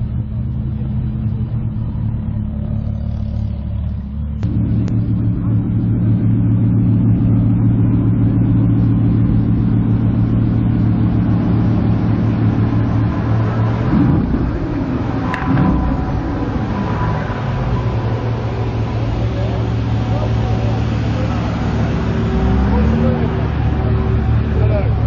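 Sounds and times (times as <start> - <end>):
car engines idling: 0.0 - 25.0.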